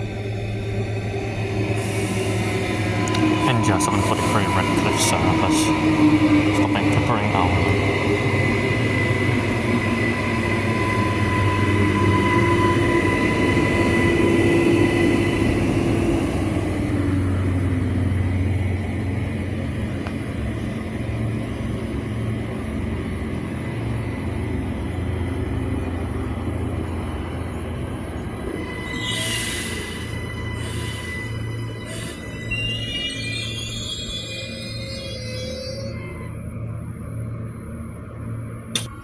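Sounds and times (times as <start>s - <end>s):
train wheels rumbling on rails: 0.0s - 33.8s
electric train whine: 0.0s - 39.0s.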